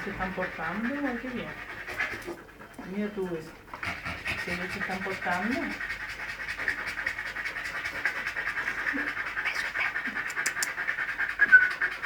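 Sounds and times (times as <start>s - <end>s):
animal panting: 0.0s - 12.0s.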